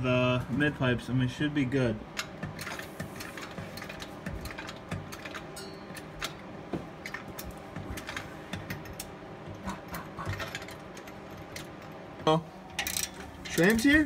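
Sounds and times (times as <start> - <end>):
tools clicking and knocking: 2.2 - 14.0.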